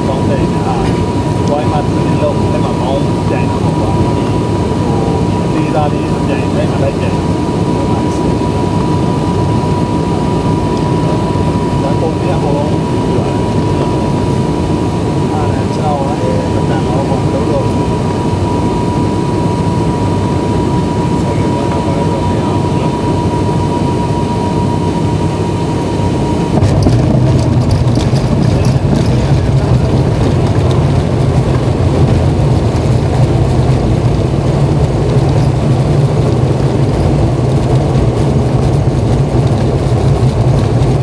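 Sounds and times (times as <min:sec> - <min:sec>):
propeller engines running loud: 0:00.0 - 0:41.0.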